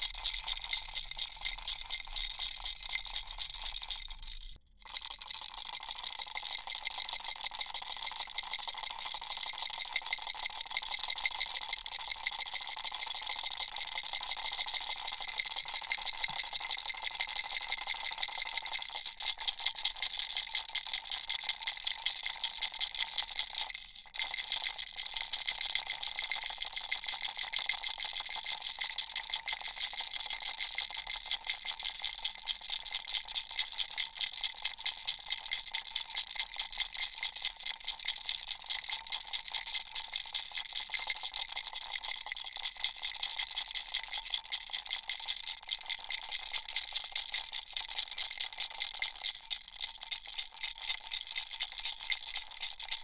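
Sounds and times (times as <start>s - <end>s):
baby rattle shaking: 0.0s - 53.0s.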